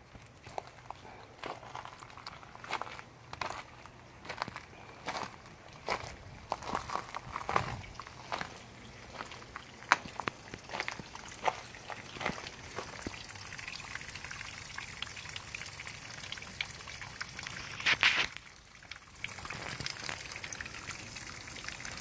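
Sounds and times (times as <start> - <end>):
water trickling from faucet: 0.2 - 22.0.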